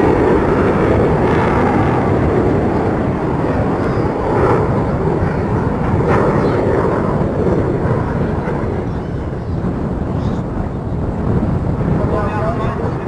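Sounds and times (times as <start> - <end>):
loud jet noise: 0.0 - 13.0.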